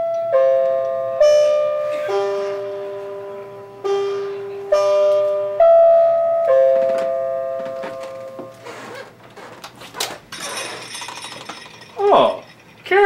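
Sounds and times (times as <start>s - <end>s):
musical doorbell chime: 0.0s - 8.6s, 10.4s - 12.6s.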